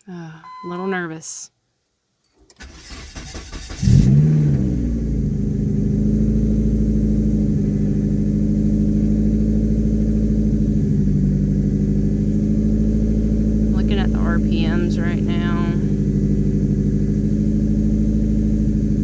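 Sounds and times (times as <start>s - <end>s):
car engine starting and idling: 2.3s - 19.0s.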